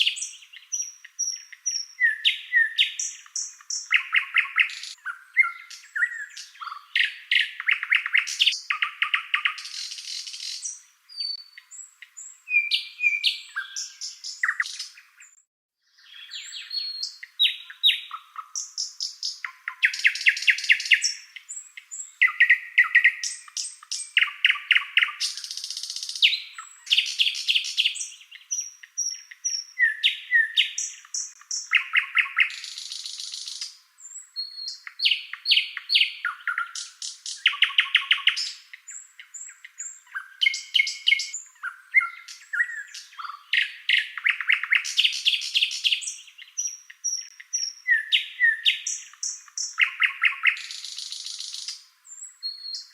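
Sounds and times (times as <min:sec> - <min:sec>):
songbird singing trills: 0:00.0 - 0:52.9.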